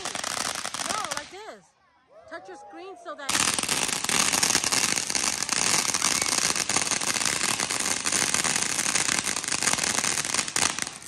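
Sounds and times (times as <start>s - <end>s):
fireworks crackling: 0.0s - 1.5s, 3.3s - 11.0s.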